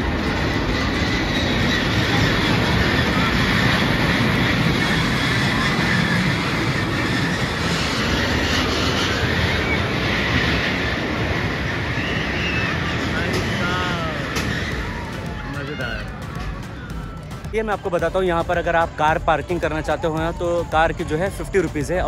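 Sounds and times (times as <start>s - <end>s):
roller coaster wheels rattling on rails: 0.0s - 22.0s.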